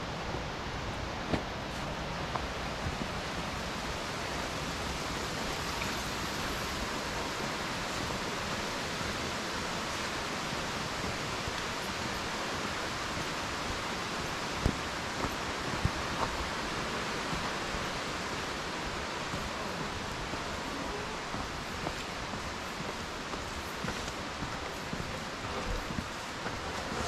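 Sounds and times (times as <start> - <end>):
mountain stream flowing: 0.0 - 27.0.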